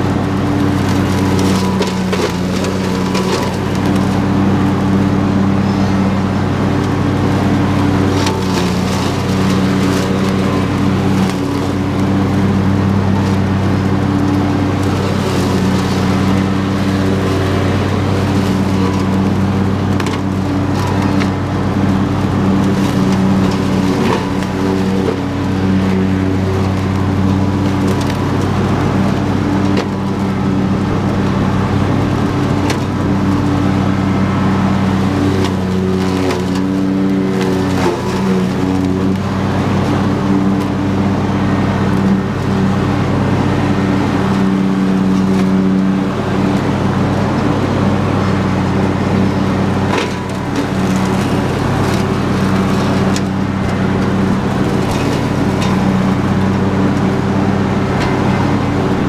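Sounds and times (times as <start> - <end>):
lawn tractor engine running: 0.0 - 59.0
mower deck cutting grass: 0.0 - 59.0.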